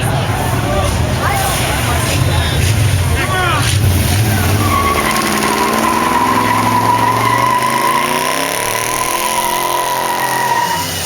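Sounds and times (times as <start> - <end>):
car engine revving: 0.0 - 11.0
tyres squealing: 0.1 - 11.0.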